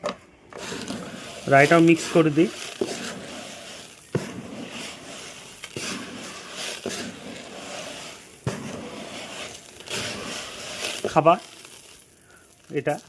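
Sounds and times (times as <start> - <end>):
grain rustling when stirred by hand: 0.6 - 13.0.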